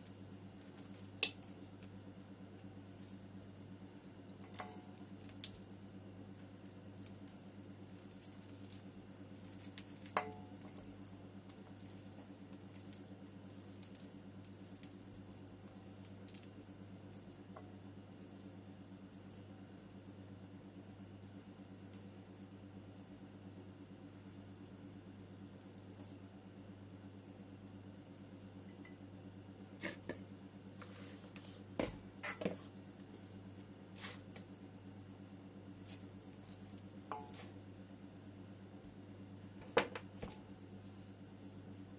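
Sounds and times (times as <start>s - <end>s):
soil ticking and pattering: 0.0s - 28.9s, 33.5s - 39.2s
steady low hum: 0.0s - 41.9s.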